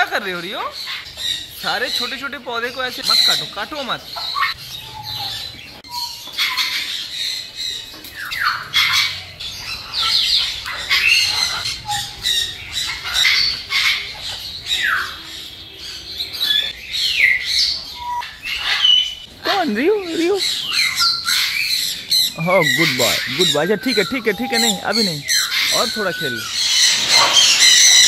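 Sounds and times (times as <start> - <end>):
parrots squawking: 0.0 - 28.0.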